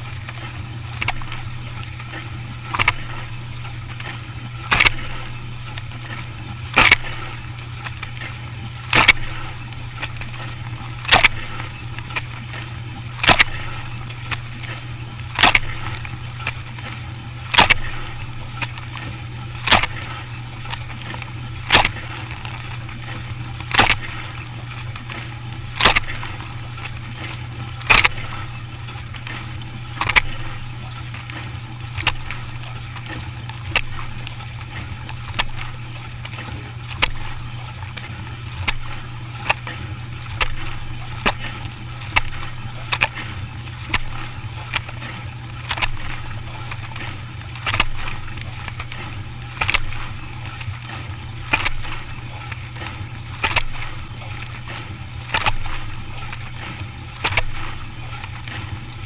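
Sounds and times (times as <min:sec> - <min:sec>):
dishwasher motor hum: 0:00.0 - 0:59.0
water splashing: 0:00.0 - 0:59.0.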